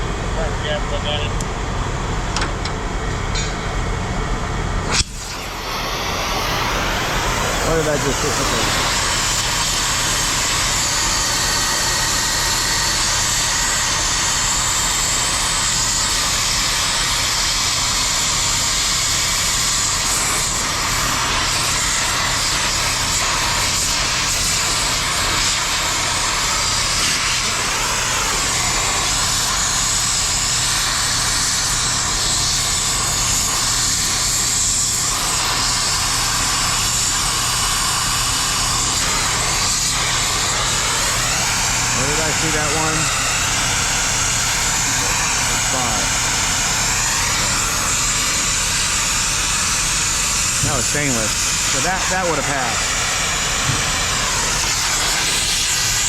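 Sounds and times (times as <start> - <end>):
loud machinery running: 0.0 - 56.0.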